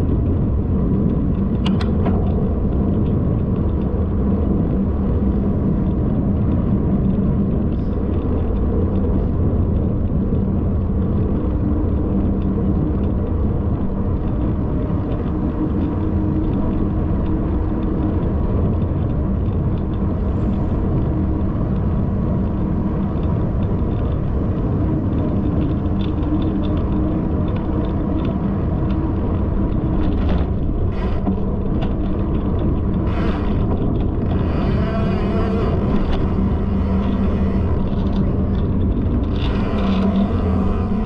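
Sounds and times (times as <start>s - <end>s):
faint steady hum: 0.0s - 41.0s
wind rumble on microphone: 0.0s - 41.0s.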